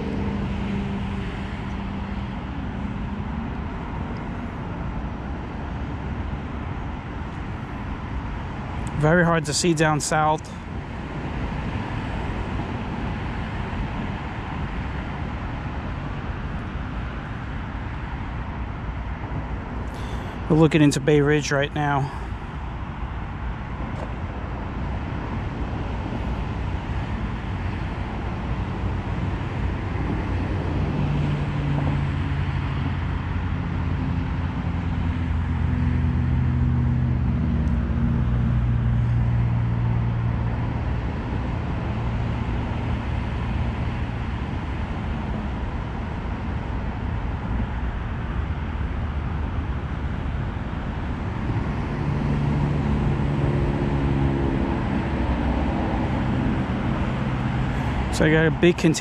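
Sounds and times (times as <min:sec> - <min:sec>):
heavy vehicle engine hum: 0:00.0 - 0:59.0
road traffic noise: 0:00.0 - 0:59.0.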